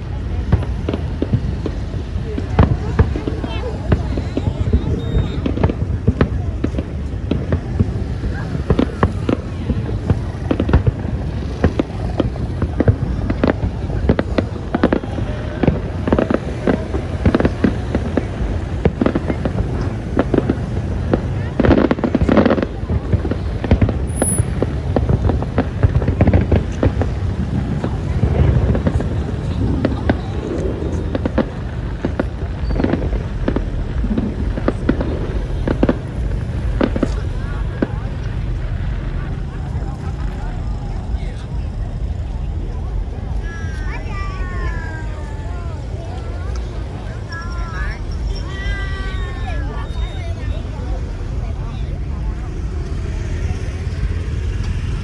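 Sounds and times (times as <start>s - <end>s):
fireworks bangs and crackles: 0.0s - 55.0s
low rumble: 0.0s - 55.0s.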